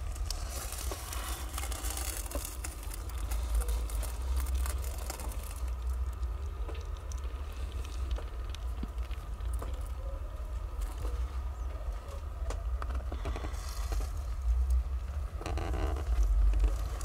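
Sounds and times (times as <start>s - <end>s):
crackly rustle of fur: 0.0s - 17.0s
steady low rumble: 0.0s - 17.0s.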